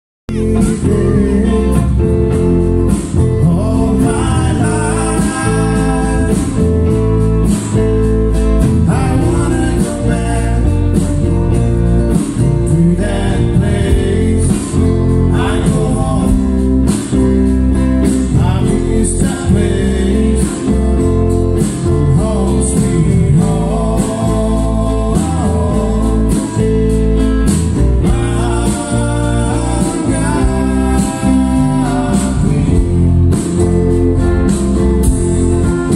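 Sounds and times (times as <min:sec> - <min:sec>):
person singing: 0:00.3 - 0:07.0, 0:08.6 - 0:17.2, 0:17.8 - 0:26.9, 0:28.0 - 0:33.5
acoustic and electric guitars: 0:00.3 - 0:35.9
drums: 0:00.3 - 0:35.9.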